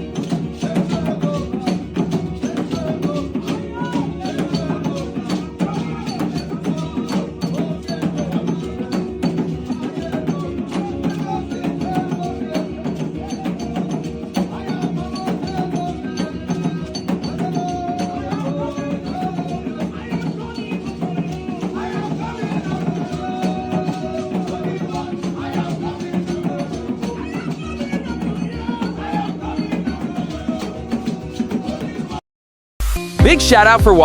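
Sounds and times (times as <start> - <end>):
worship music with fast percussion: 0.0 - 32.2, 32.9 - 34.0.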